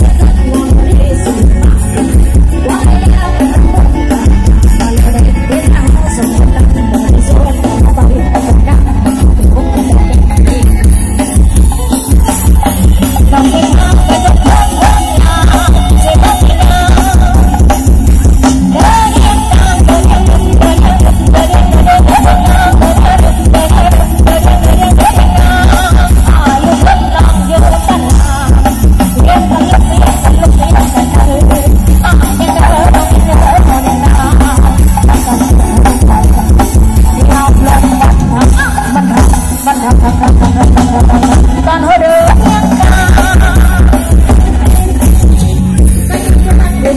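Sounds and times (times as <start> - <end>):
loud dance music over loudspeakers: 0.0 - 46.9.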